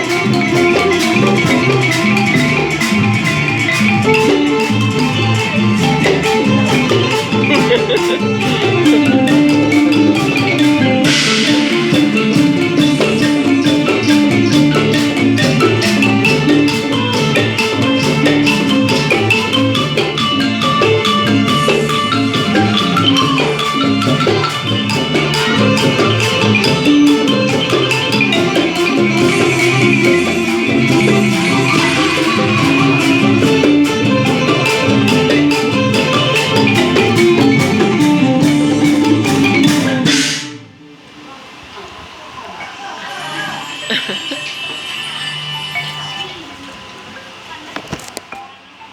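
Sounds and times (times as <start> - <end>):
drum beat: 0.0 - 40.6
wooden xylophone playing quick notes: 0.0 - 40.6.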